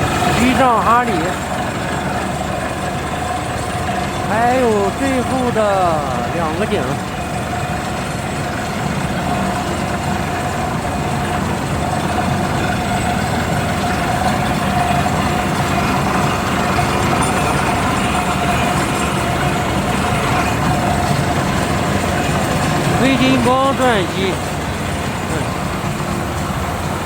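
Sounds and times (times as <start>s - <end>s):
air compressor and drilling rig: 0.0s - 27.0s.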